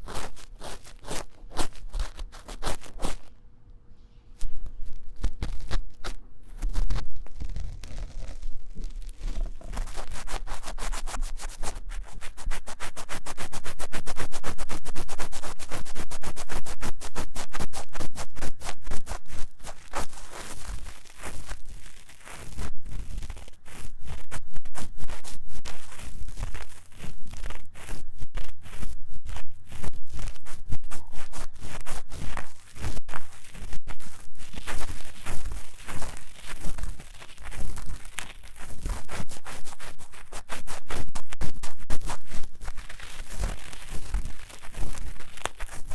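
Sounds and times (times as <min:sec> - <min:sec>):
scratching on microphone ears: 0:00.0 - 0:03.3, 0:04.4 - 0:45.9.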